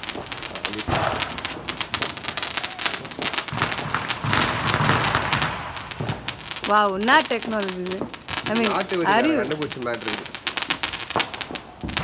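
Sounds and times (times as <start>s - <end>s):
firework fizzing and crackling: 0.0s - 12.0s.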